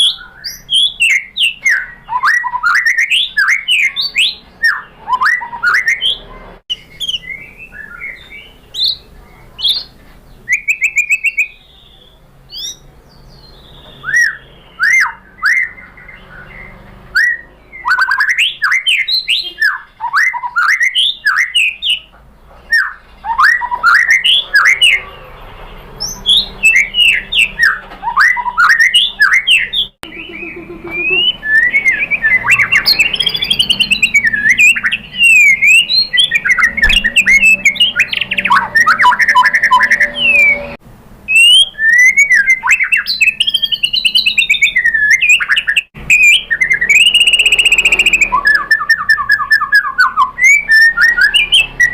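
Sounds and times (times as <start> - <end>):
bird singing whistled phrases: 0.0 - 9.9, 10.5 - 22.1, 22.7 - 25.1, 26.0 - 51.9.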